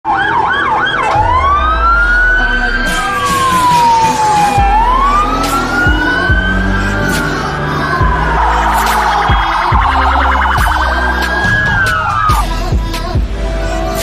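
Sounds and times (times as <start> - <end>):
police siren yelping and wailing: 0.1 - 12.8
car engines and tyres passing: 0.1 - 13.3.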